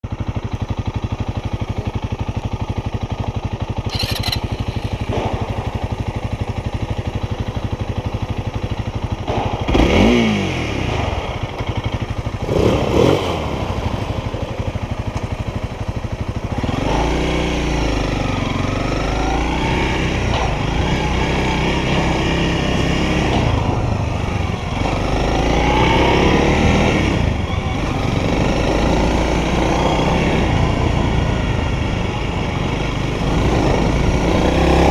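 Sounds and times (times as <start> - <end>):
motorcycle engine idling: 0.0 - 34.9
motorcycle accelerating through gears: 0.1 - 34.9
motorcycle engine revving: 0.2 - 34.9.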